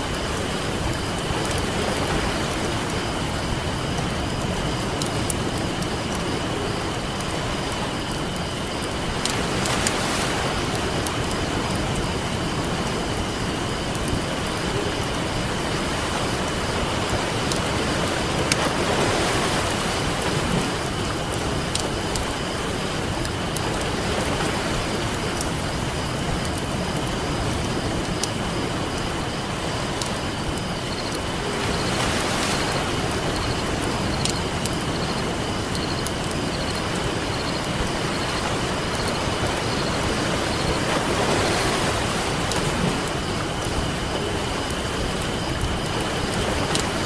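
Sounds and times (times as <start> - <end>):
campfire crackling and popping: 0.0 - 15.3, 16.7 - 18.8, 19.4 - 37.8, 42.4 - 47.0
ocean surf washing: 0.0 - 47.0.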